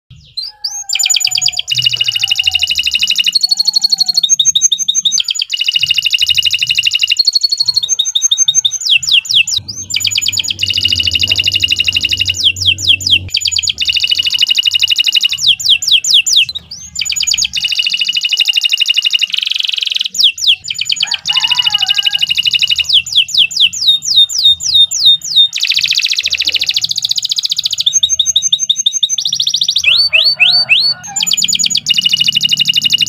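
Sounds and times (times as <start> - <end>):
canary singing trills: 0.1 - 33.0.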